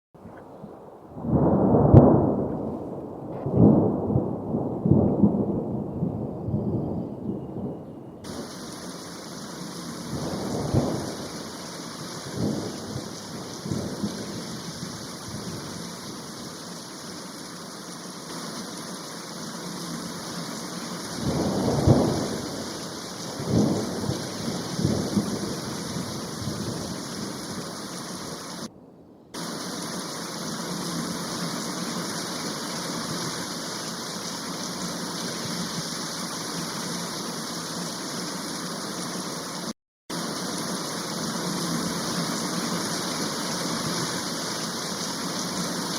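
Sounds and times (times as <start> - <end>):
deep rumbling water surges: 8.2 - 28.7, 29.4 - 45.9
rushing water: 8.3 - 28.7, 29.4 - 45.9.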